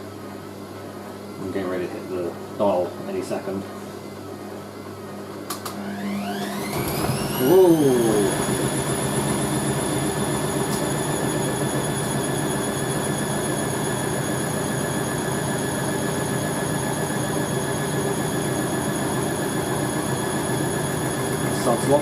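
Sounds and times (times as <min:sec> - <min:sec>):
washing machine spinning: 0:04.2 - 0:22.0.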